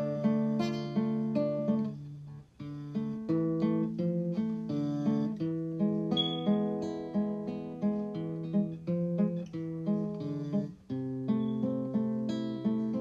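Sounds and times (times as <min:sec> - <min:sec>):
plucked acoustic guitar melody: 0:00.0 - 0:13.0.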